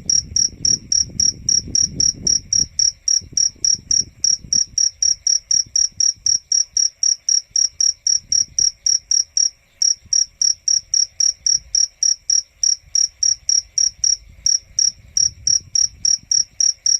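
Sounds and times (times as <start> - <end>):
cricket chirping: 0.0 - 16.9.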